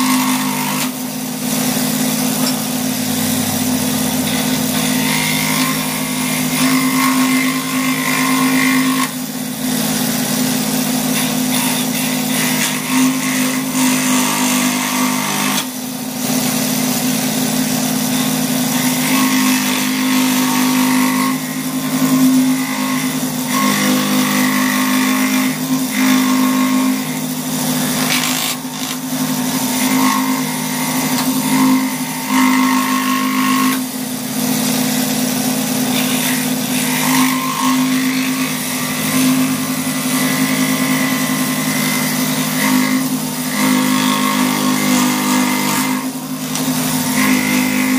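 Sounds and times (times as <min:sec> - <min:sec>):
saw blade rasping through wood: 0:00.0 - 0:47.9.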